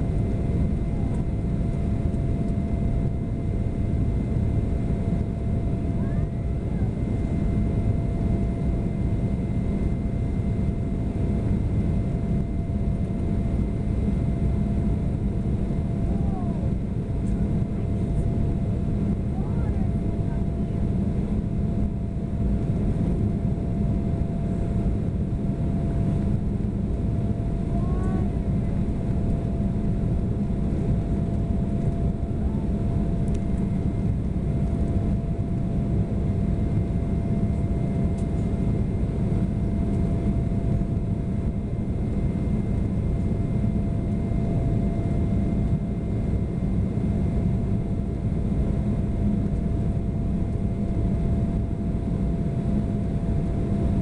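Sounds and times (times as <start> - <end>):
airliner engine rumble: 0.0 - 54.0
thin steady whine: 0.0 - 54.0.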